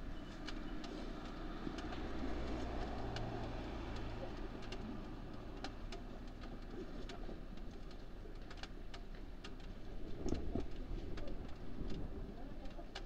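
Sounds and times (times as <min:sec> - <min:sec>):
faint ticks: 0:00.2 - 0:13.0.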